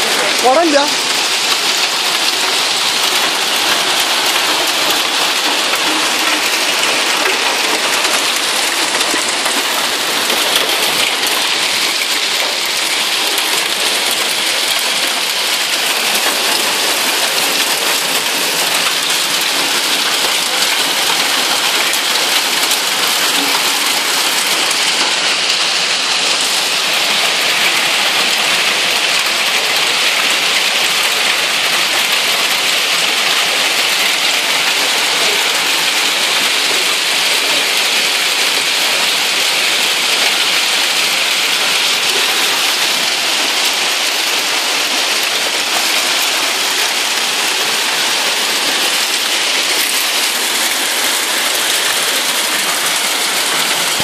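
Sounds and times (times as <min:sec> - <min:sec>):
hail and rain falling: 0:00.0 - 0:54.0.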